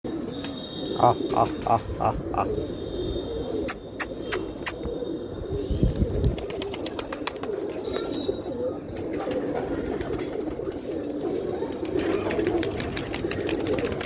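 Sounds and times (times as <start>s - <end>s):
pigeons cooing: 0.1s - 14.0s.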